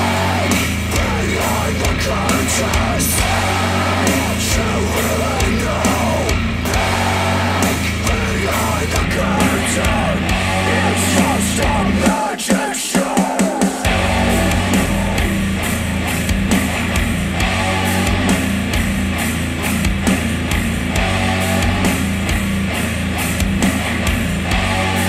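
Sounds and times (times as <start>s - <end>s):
rock music through speakers: 0.0s - 25.0s.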